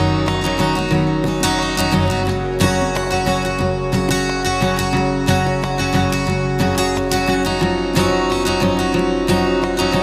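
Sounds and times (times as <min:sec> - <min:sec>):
background music with steady rhythm: 0:00.0 - 0:10.0.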